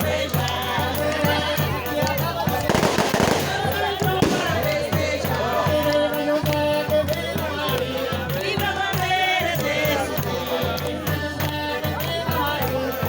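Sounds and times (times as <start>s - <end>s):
group singing a folk hymn: 0.0s - 13.0s.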